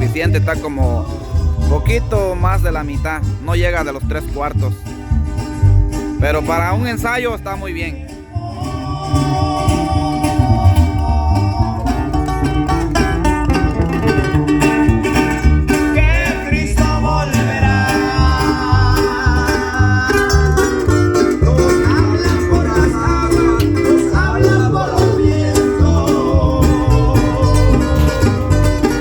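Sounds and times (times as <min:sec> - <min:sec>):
electric bass playing: 0:00.0 - 0:29.0
plucked guitars: 0:00.0 - 0:29.0.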